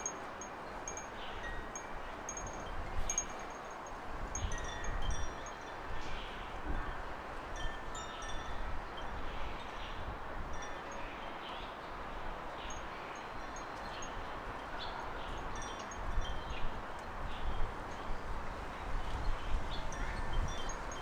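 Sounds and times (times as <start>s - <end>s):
wind and rustling: 0.0s - 21.0s
wind rumble on microphone: 0.0s - 21.0s.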